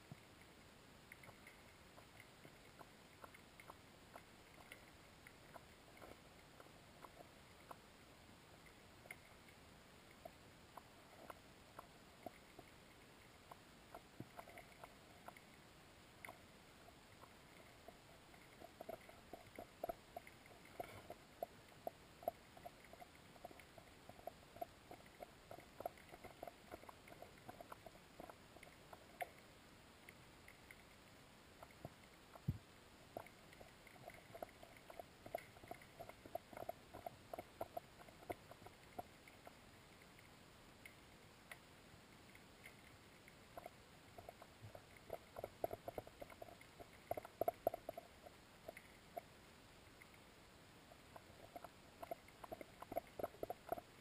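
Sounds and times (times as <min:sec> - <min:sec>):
underwater clicking: 0:01.1 - 0:50.3, 0:50.9 - 0:54.0.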